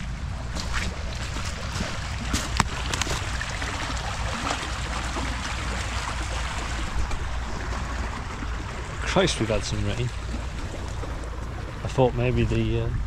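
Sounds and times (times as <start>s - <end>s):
floodwater rushing: 0.0s - 12.7s.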